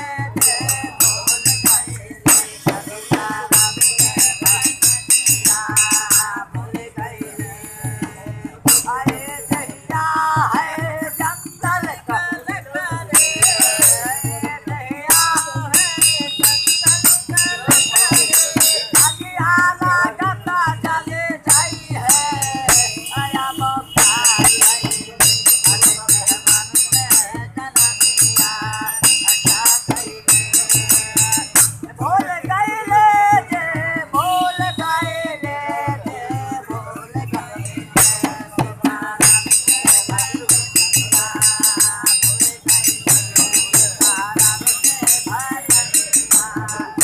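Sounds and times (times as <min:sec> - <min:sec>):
barrel drum beating: 0:00.0 - 0:47.0
man singing: 0:00.0 - 0:47.0
hand cymbals clashing: 0:00.1 - 0:06.6, 0:07.3 - 0:32.0, 0:36.0 - 0:47.0.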